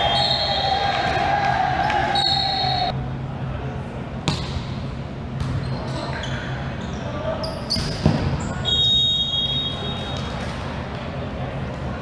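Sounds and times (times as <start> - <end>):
sports hall hum and echo: 0.0 - 12.0.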